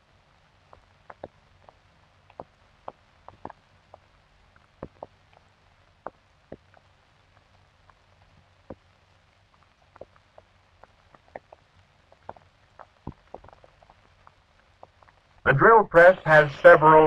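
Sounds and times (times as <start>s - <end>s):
film soundtrack hiss: 0.0s - 17.0s
clicks and pops: 0.7s - 15.4s.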